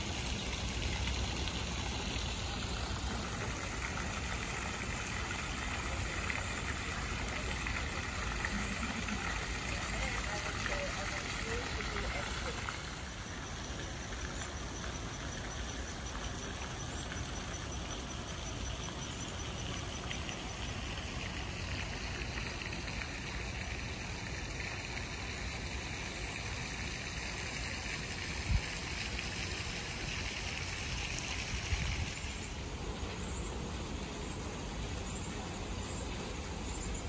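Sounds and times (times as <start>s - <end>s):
outdoor background rush: 0.0s - 37.0s.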